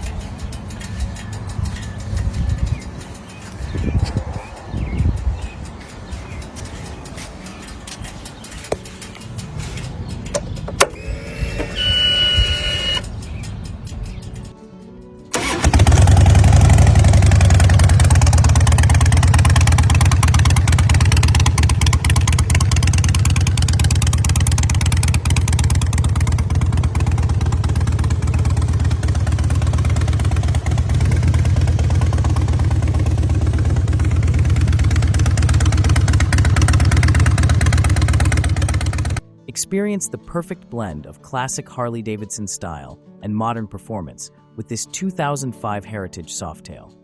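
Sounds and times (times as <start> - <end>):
motorcycle engine starting and running: 0.0 - 14.5, 15.3 - 39.2.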